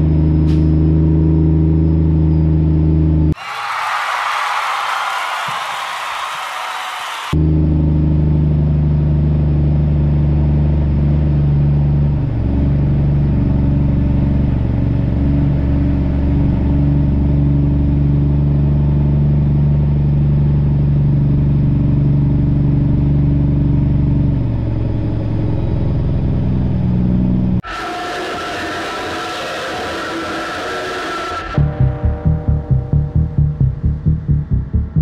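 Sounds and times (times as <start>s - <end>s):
truck diesel engine: 0.0s - 3.4s, 7.4s - 35.0s.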